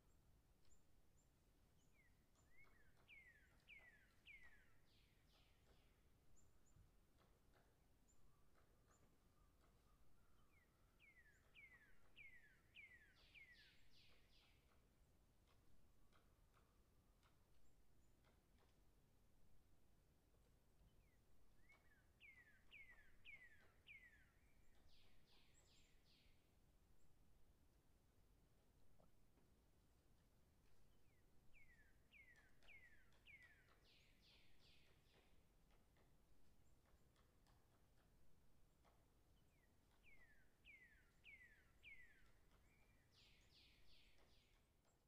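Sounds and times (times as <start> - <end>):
faint outdoor hiss: 0.0 - 45.0.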